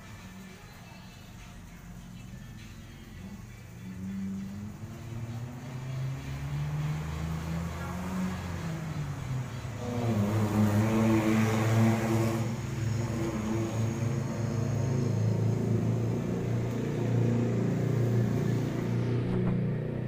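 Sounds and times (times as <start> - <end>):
vehicle engines on the road: 0.0 - 20.0
heavier engine passing: 3.3 - 20.0.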